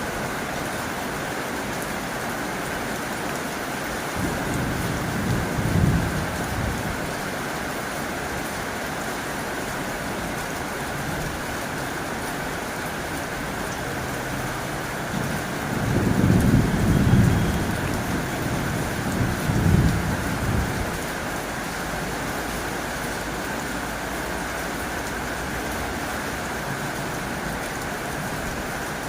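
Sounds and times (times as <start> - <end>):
heavy rain on a tin roof: 0.0 - 29.0.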